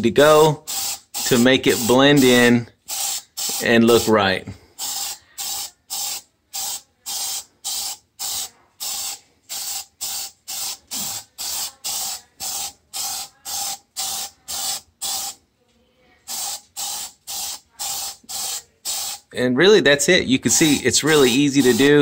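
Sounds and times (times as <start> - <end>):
aerosol can spraying: 0.6 - 4.2, 4.8 - 15.4, 16.3 - 19.3, 20.5 - 22.0.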